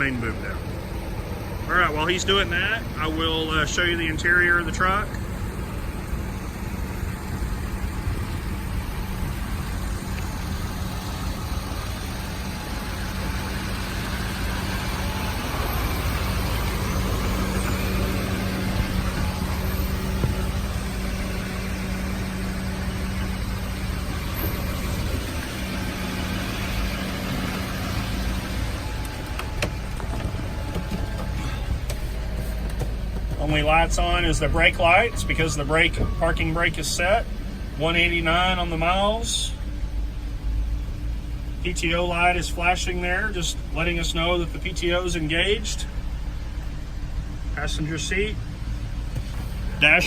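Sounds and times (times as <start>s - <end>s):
hydraulic hum: 0.0s - 50.0s
truck engine idling: 0.0s - 50.0s.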